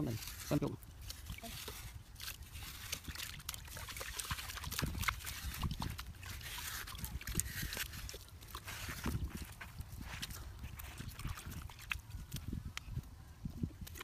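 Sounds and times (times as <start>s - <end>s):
shovel digging gravelly earth: 0.0s - 12.0s.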